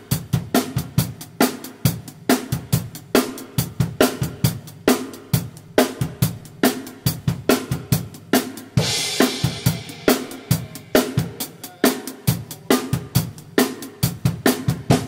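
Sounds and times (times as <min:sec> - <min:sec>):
drum kit playing pop groove: 0:00.0 - 0:15.0.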